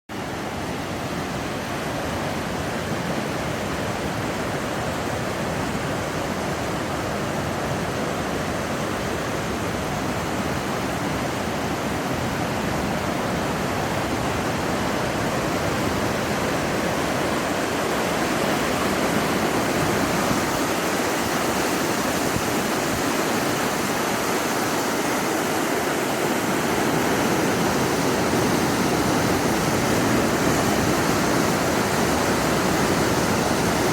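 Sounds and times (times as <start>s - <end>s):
river rushing over rocks: 0.1s - 33.9s.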